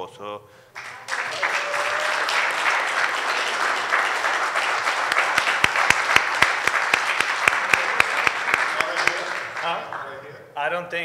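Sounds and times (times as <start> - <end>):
single sharp claps: 0.8 - 9.7
audience applauding: 0.8 - 10.3.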